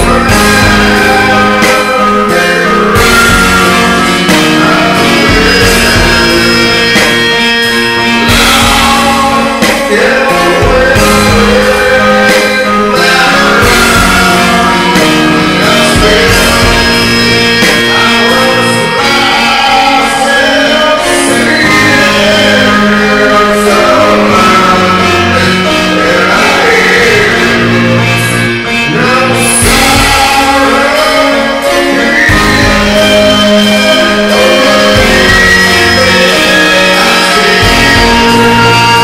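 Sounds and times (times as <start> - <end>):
guitar-driven rock music: 0.0 - 39.0
person singing: 0.0 - 39.0.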